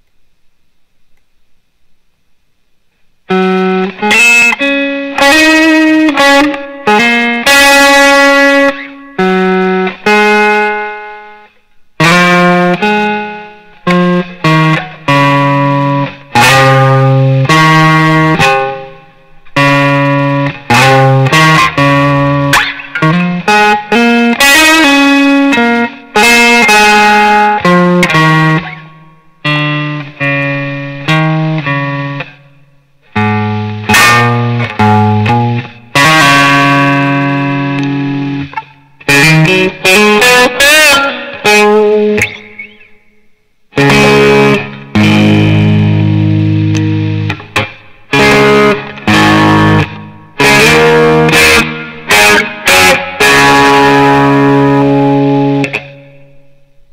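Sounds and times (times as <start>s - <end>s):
electric guitar chords and notes: 3.2s - 56.9s.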